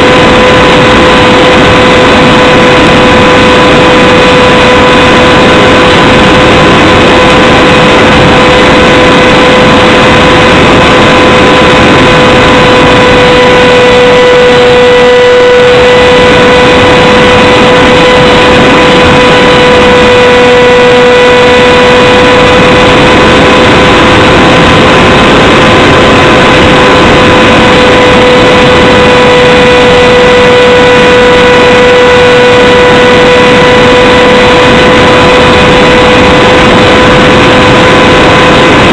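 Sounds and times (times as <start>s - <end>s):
electric motor whine: 0.0s - 38.9s
loud wind rush: 0.0s - 38.9s.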